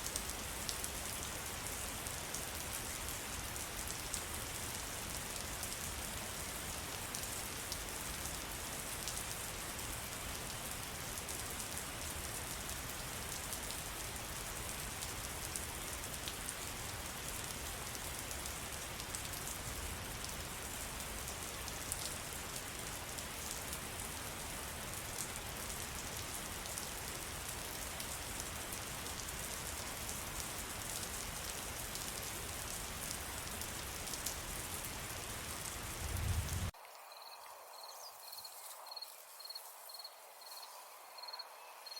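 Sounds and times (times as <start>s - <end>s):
steady rain falling: 0.0s - 41.4s.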